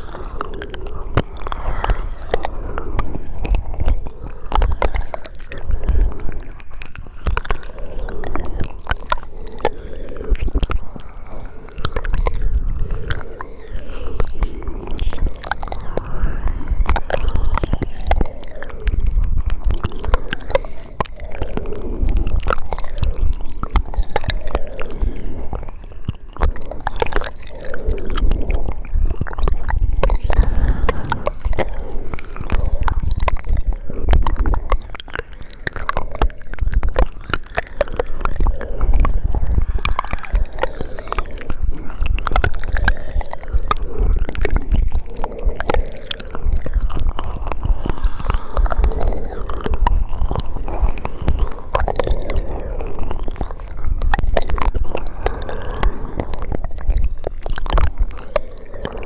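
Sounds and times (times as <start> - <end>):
wet mouth clicks and smacks: 0.0 - 59.0.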